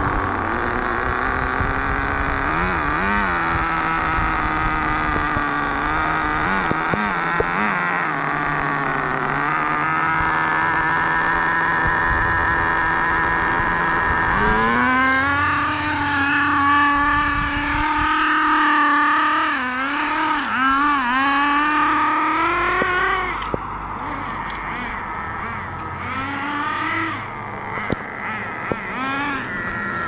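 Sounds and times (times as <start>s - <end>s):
small two-stroke engine revving: 0.0s - 30.0s.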